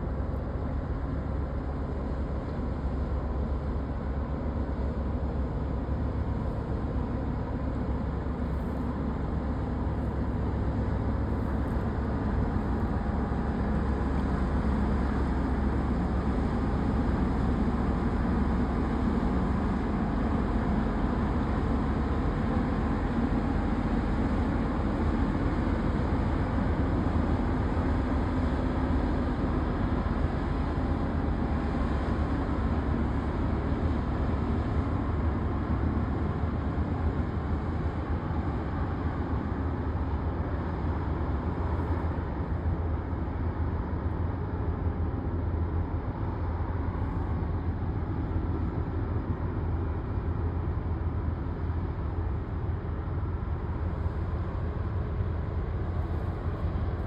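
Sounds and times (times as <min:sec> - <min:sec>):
ship engine rumble: 0:00.0 - 0:57.0.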